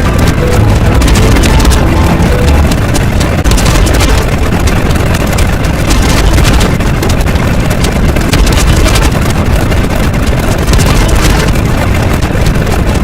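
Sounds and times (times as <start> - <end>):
loud crackling rumble: 0.0 - 13.0.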